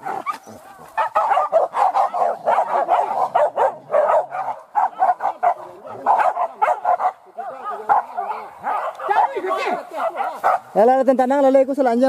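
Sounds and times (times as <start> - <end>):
dogs barking and yelping: 0.0 - 10.8.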